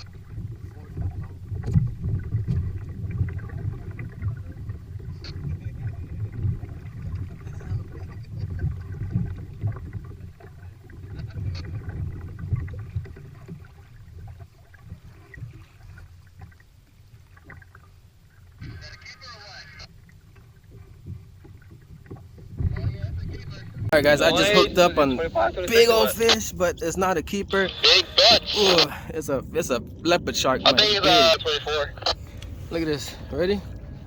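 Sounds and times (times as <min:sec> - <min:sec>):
water and wind rumbling: 0:00.0 - 0:34.0.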